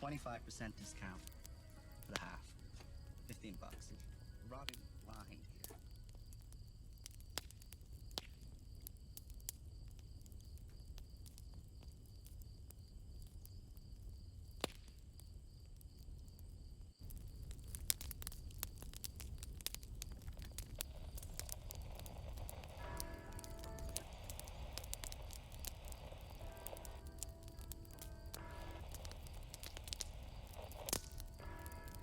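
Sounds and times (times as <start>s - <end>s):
campfire crackling and popping: 0.0s - 32.0s
crickets chirping: 0.0s - 32.0s.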